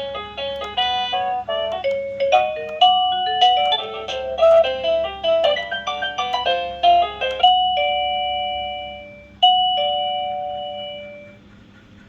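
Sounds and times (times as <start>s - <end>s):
doorbell chime tune: 0.7s - 11.4s
two-tone doorbell ding-dong: 0.7s - 11.4s.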